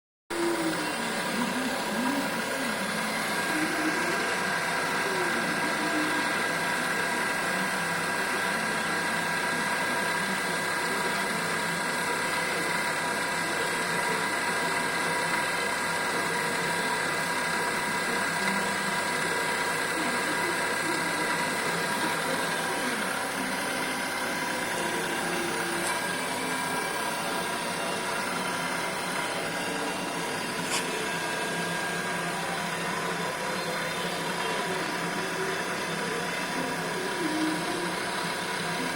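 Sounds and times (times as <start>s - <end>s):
mechanical hum: 0.3s - 38.9s
electric motor whining: 0.4s - 38.9s.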